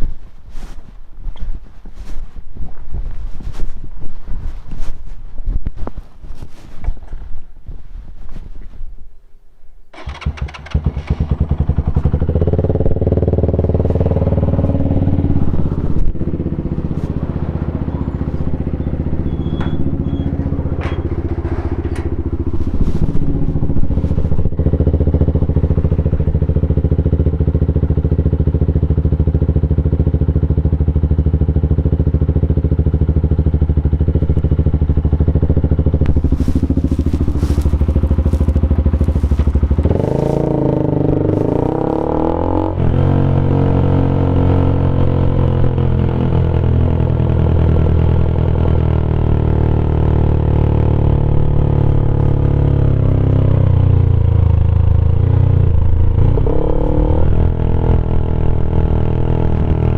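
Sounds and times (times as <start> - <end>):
motorcycle engine running at low revs: 0.0 - 8.8, 10.0 - 59.9.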